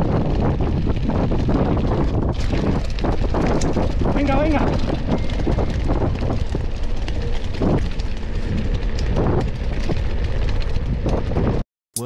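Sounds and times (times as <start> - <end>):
bike tyres rumbling on rocky road: 0.0 - 11.6
knocks and rattles from bike: 0.0 - 11.6
wind buffeting microphone: 0.0 - 11.6.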